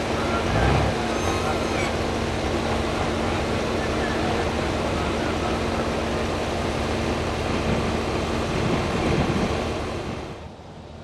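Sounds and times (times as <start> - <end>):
vehicle engine roaring: 0.0 - 11.0.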